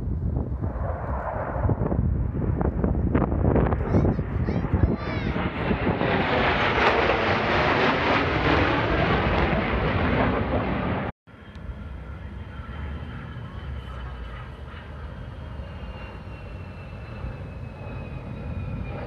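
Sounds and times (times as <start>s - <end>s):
distant jet rumble with whine: 0.0s - 19.0s
jet roar overhead: 0.0s - 19.0s.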